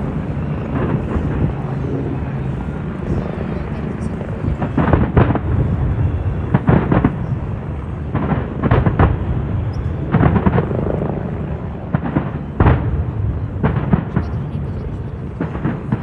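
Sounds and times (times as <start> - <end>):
fireworks sharp bangs: 0.0 - 14.5
low rumble of booms: 0.0 - 16.0.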